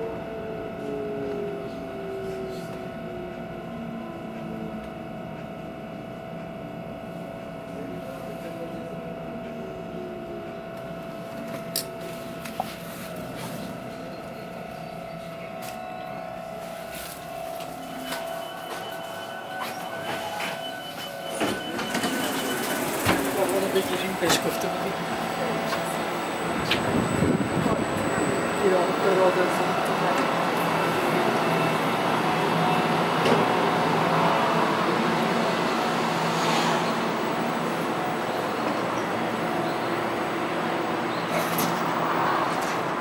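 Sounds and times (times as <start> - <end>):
electric train drive whine: 0.0 - 7.9, 8.7 - 43.0.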